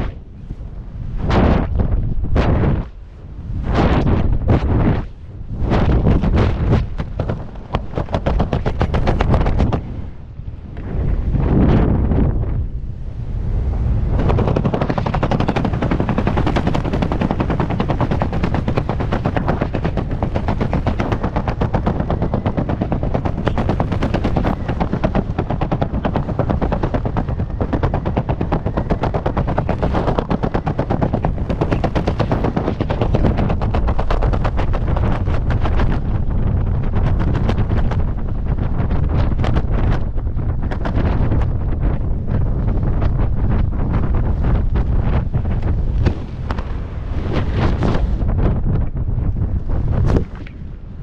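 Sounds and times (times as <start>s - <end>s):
fabric flapping in airflow: 0.0s - 51.0s
wind buffeting microphone: 0.0s - 51.0s.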